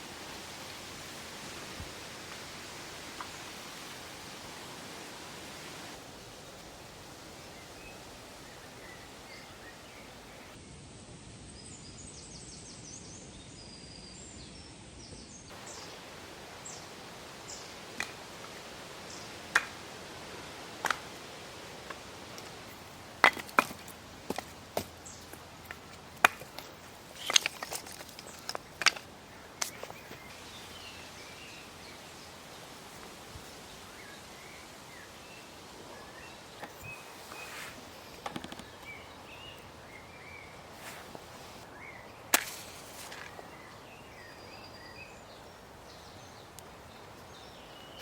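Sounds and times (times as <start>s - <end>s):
woodland ambience: 0.0s - 10.7s, 11.5s - 48.0s.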